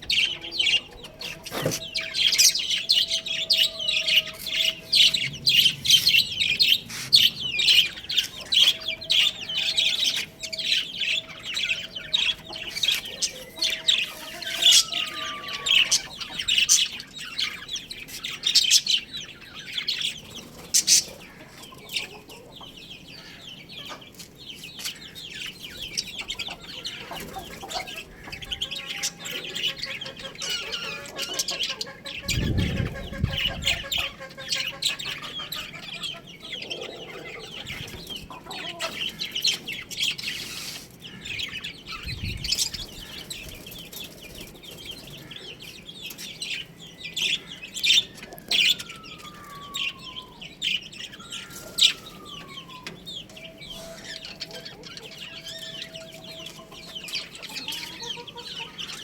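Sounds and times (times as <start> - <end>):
chicks chirping: 0.0 - 59.0.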